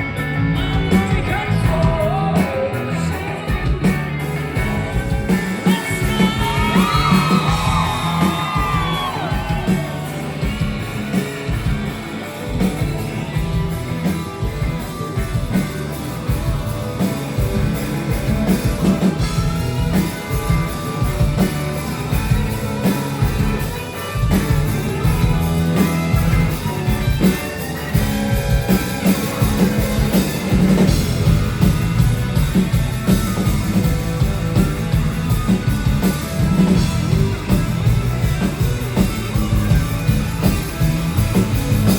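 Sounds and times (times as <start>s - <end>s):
bass: 0.0s - 41.9s
drum kit: 0.0s - 41.9s
electric guitars: 0.0s - 41.9s.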